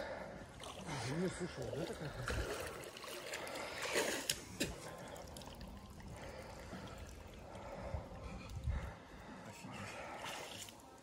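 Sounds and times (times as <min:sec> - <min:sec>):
water splashing and trickling: 0:00.2 - 0:11.0.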